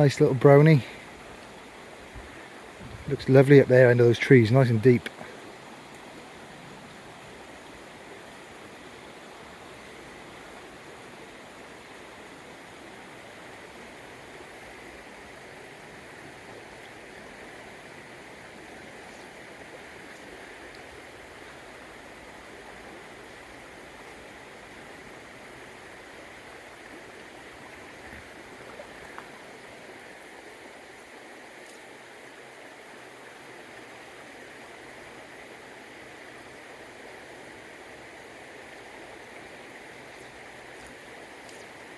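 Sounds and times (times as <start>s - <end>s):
stream running over stones: 0.0s - 41.9s.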